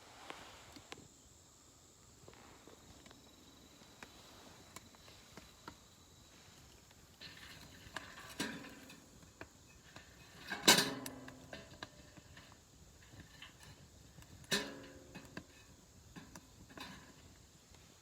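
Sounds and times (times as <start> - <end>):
fire crackling: 2.8 - 18.0.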